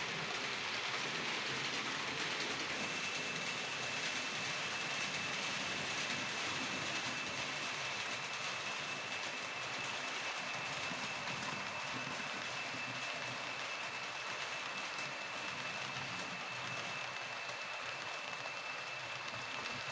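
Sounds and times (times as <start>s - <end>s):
model train whining: 0.0s - 19.9s
wheels rolling hiss: 0.0s - 19.9s.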